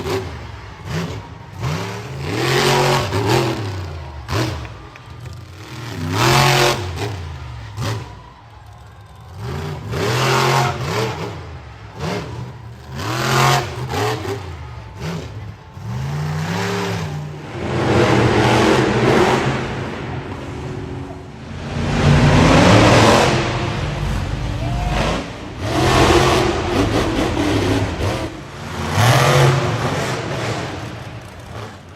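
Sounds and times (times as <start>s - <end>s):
truck engine revving: 0.0s - 31.9s.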